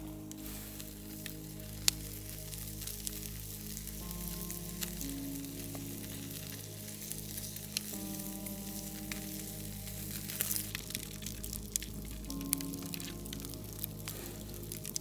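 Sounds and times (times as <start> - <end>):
food sizzling in a pan: 0.0 - 15.0
soft background music: 0.0 - 15.0.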